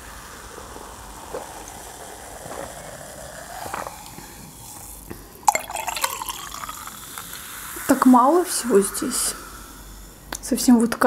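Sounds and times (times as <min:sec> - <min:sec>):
soda being swallowed: 0:00.0 - 0:10.2
liquid pouring: 0:00.4 - 0:09.8.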